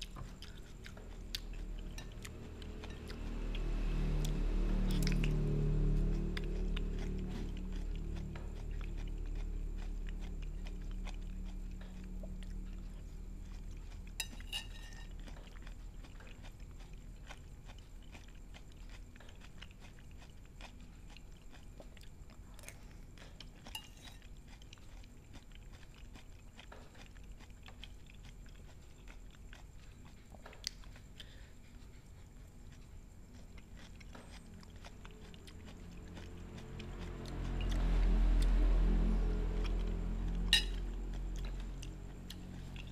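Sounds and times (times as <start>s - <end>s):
faint chewing: 0.0s - 42.9s.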